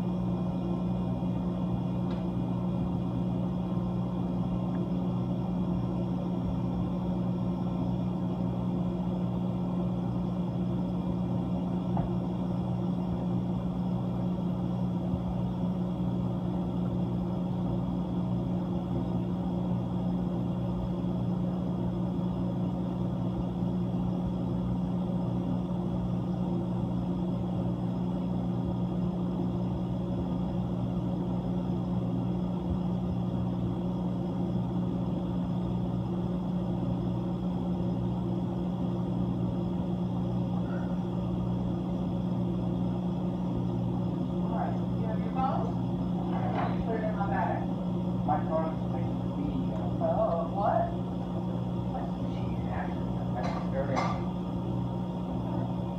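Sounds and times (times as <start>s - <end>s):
refrigeration compressor humming: 0.0s - 55.9s.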